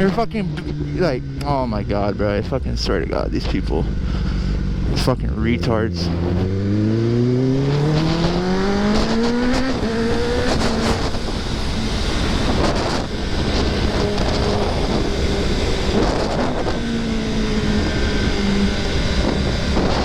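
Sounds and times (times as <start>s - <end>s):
motorcycle engine revving: 0.0s - 20.0s
wind noise: 0.0s - 20.0s.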